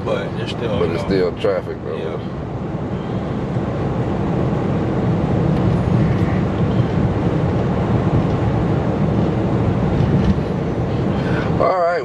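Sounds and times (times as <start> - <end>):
tyre and wind noise in car cabin: 0.0 - 12.0.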